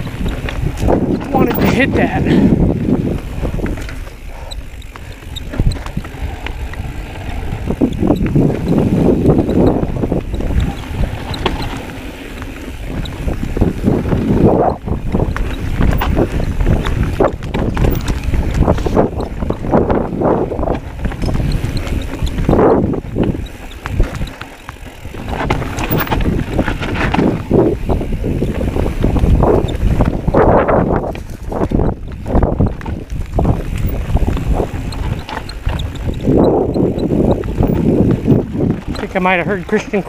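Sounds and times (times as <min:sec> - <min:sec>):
bike rattling and knocking: 0:00.0 - 0:40.0
bike tyres rolling on dirt: 0:00.0 - 0:40.0
wind buffeting microphone: 0:00.0 - 0:40.0.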